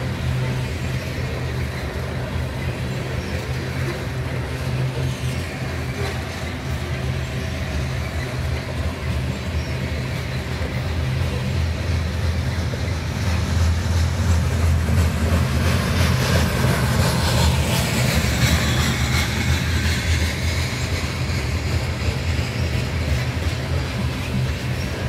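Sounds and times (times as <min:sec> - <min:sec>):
freight train rolling past: 0:00.0 - 0:25.0
wheels clattering on rails: 0:00.0 - 0:25.0.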